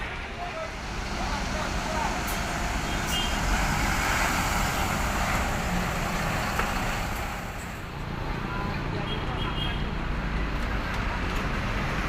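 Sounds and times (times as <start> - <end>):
din of busy bus terminal: 0.0 - 12.0
large bus engines running: 0.0 - 12.0.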